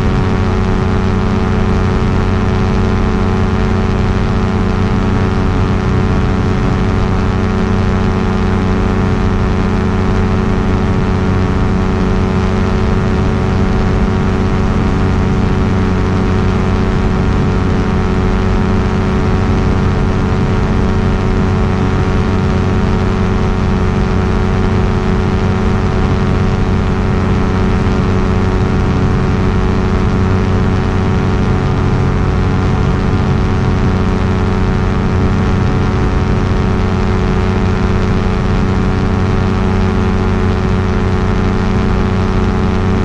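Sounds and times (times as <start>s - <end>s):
ultralight aircraft engine drone: 0.0s - 43.0s.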